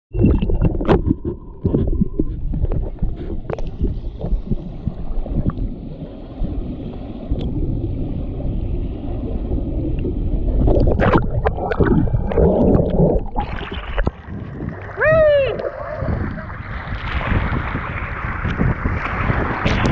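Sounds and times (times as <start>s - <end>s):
water rushing and rumbling: 0.2s - 19.9s.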